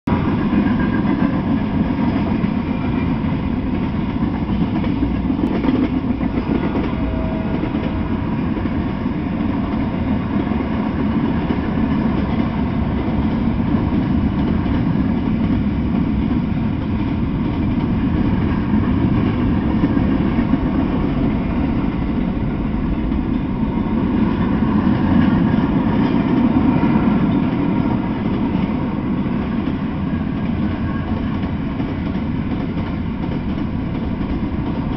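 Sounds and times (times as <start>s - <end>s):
steel wheels rumbling on rail: 0.1s - 34.9s.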